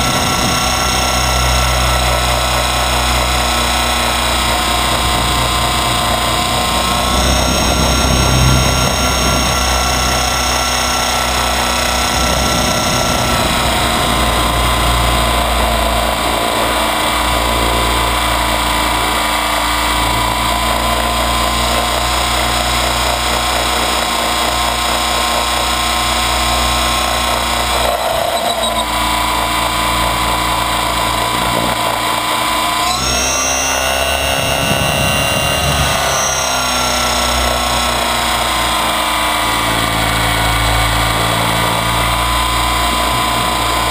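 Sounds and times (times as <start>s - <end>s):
rc helicopter motor whine: 0.0s - 43.9s.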